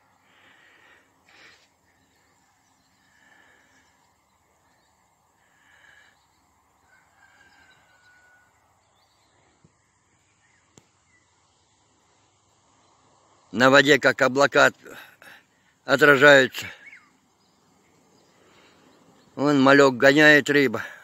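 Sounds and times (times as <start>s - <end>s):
faint distant bird calls: 0.0s - 21.0s.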